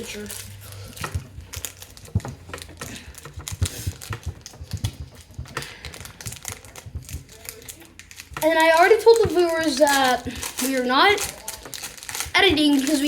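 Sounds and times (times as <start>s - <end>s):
cards tapping and clicking: 0.0s - 13.0s.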